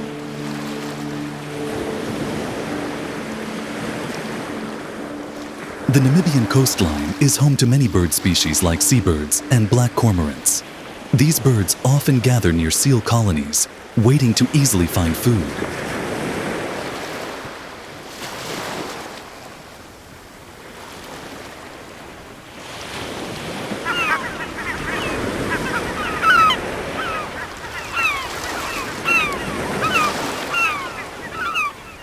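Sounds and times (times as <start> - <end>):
seabirds calling: 0.0 - 16.7, 22.6 - 32.0
surf washing on shore: 0.0 - 32.0.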